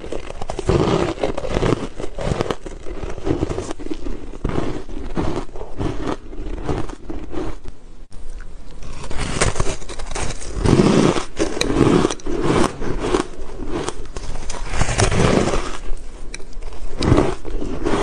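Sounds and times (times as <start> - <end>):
chewing crunchy ice: 0.0 - 7.7, 8.8 - 18.0.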